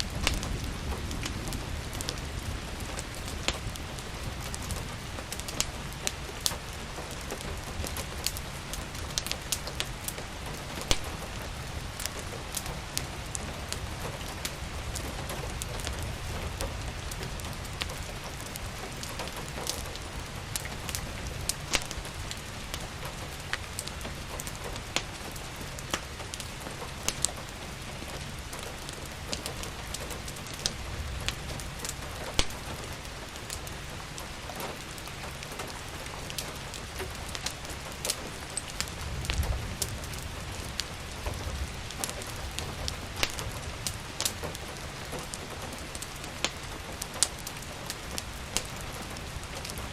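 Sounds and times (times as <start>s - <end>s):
fireplace crackling: 0.0s - 49.9s
rain hissing: 0.0s - 49.9s.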